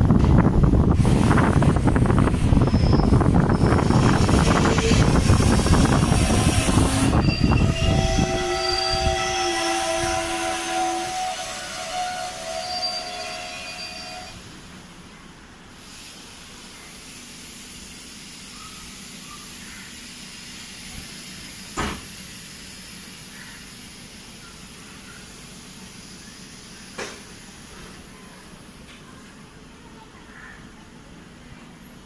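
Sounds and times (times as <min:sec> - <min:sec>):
train rumble and hiss: 0:00.0 - 0:32.0.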